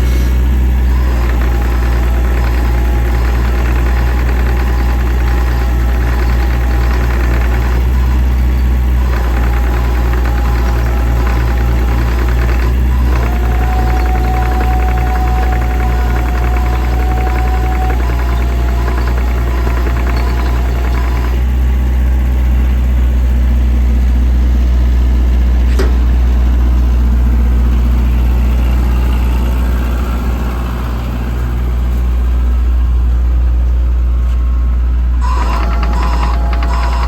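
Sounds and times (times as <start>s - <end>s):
excavator diesel engine humming: 0.0s - 37.0s.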